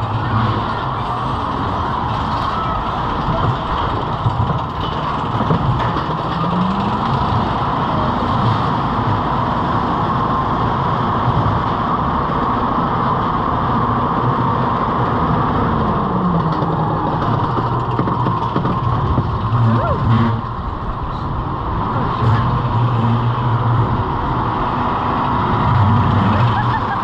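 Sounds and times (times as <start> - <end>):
roller coaster chain lift: 0.0 - 27.0.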